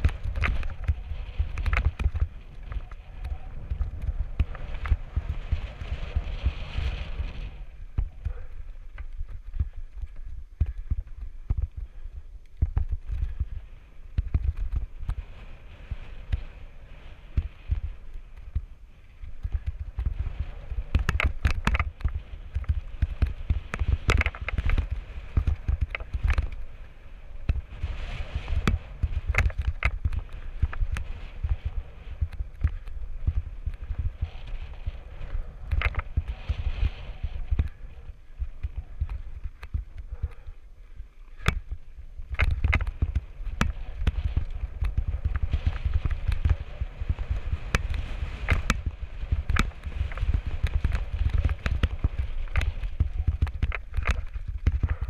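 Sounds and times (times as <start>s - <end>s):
bike tyres rumbling on dirt: 0.0s - 55.0s
wind on microphone: 0.0s - 55.0s.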